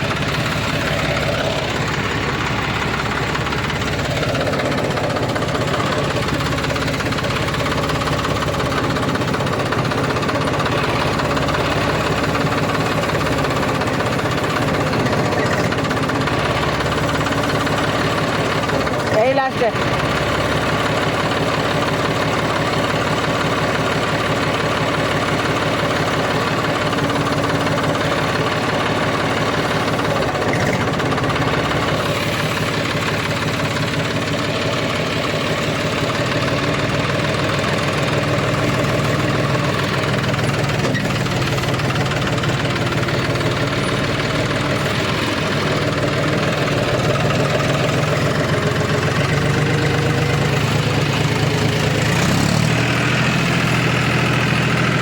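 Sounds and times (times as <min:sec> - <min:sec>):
harvesting machine engine running: 0:00.0 - 0:55.0.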